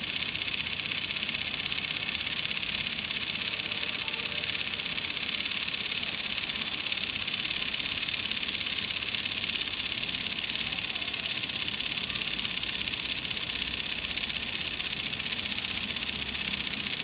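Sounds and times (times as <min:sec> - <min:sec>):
small electric motor buzzing: 0:00.0 - 0:17.0.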